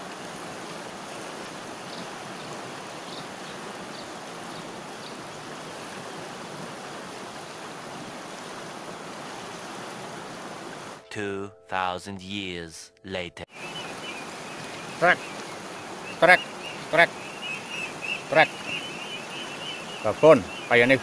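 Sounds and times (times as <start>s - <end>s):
river flowing over rocks: 0.0s - 11.0s, 13.6s - 21.0s.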